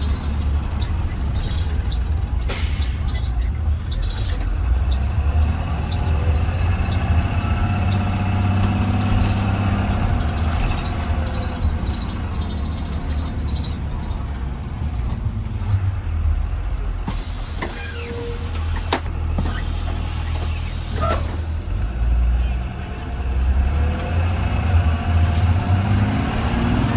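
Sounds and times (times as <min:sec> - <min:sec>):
bus engine running: 0:00.0 - 0:26.9
drivetrain whine: 0:03.2 - 0:26.9.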